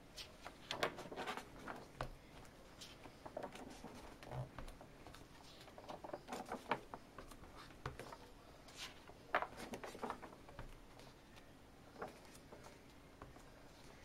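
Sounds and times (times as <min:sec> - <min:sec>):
book pages turning: 0:00.1 - 0:12.8.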